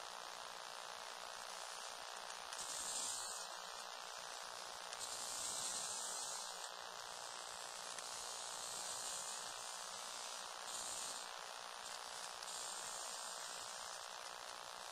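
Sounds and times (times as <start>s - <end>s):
small electric motors whirring: 1.1s - 14.9s.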